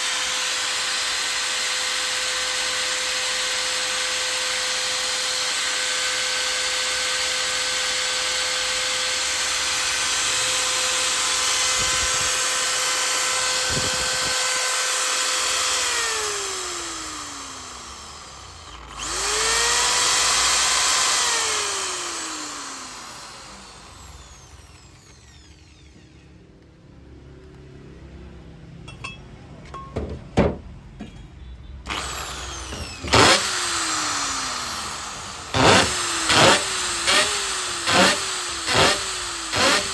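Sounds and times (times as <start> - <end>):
drill motor whining: 0.0 - 26.5, 31.9 - 39.9
drill clicks: 0.0 - 26.7, 31.8 - 39.9.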